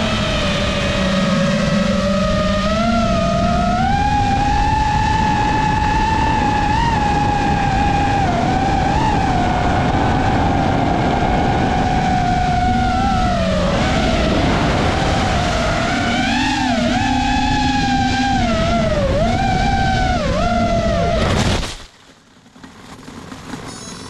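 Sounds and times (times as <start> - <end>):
drone propellers whining: 0.0 - 21.7
heavy rushing noise: 0.0 - 21.8.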